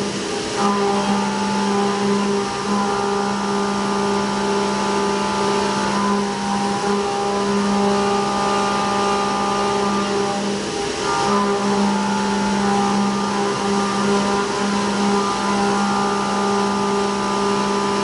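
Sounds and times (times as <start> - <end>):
milling machine cutting drone: 0.0 - 18.0.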